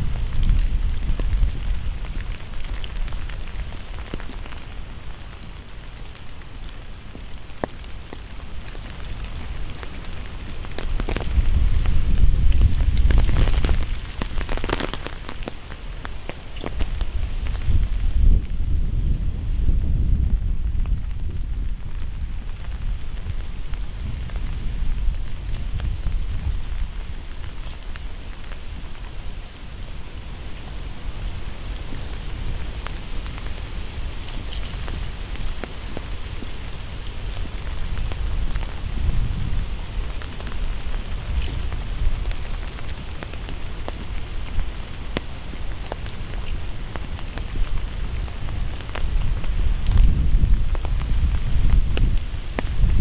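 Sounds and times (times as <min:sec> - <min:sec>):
raindrops ticking: 0:00.0 - 0:18.7, 0:20.2 - 0:53.0
steady rain falling: 0:00.0 - 0:53.0.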